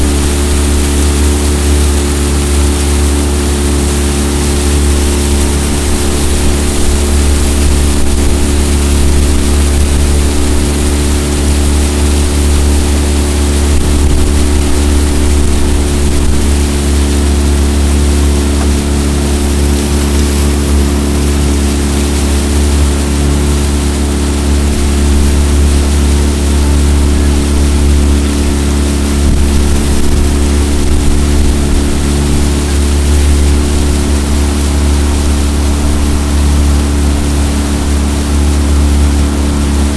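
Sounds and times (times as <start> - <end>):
outboard motor droning: 0.0 - 39.9.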